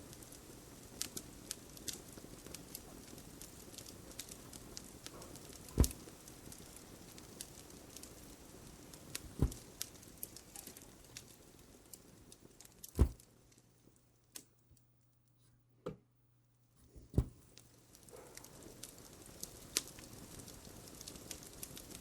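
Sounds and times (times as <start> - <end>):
fireplace crackling: 0.0 - 14.6, 16.8 - 22.0.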